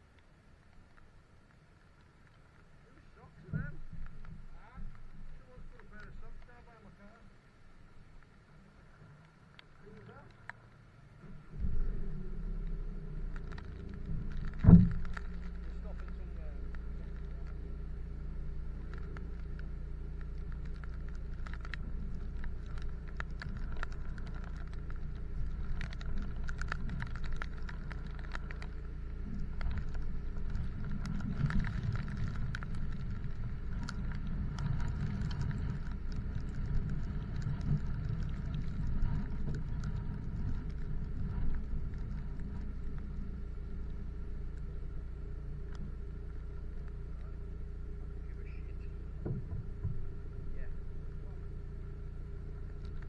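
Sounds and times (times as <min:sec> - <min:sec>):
low hum from car: 0:00.0 - 0:53.0
rain pattering on car: 0:00.0 - 0:53.0.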